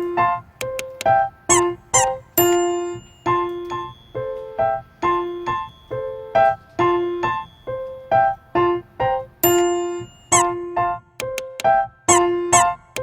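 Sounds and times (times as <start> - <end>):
light piano melody: 0.0 - 13.0.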